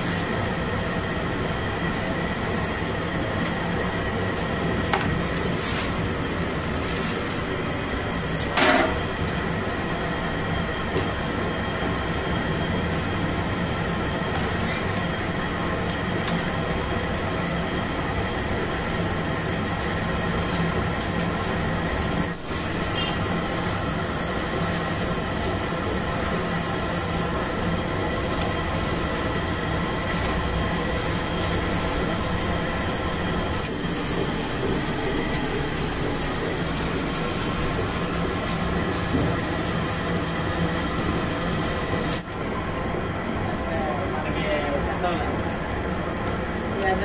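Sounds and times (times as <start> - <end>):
gas burner roaring: 0.0 - 47.0.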